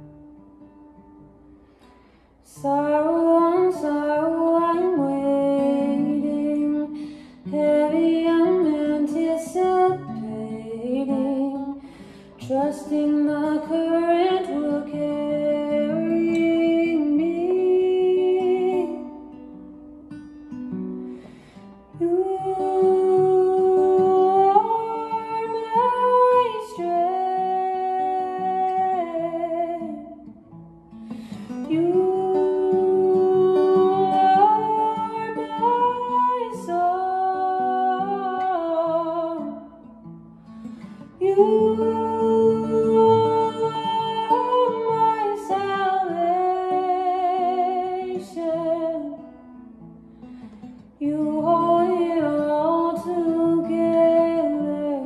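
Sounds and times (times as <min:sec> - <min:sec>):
acoustic guitar: 0:00.0 - 0:55.0
woman singing wordless phrases: 0:02.4 - 0:19.5, 0:21.9 - 0:30.4, 0:31.5 - 0:39.8, 0:41.1 - 0:49.4, 0:51.0 - 0:55.0.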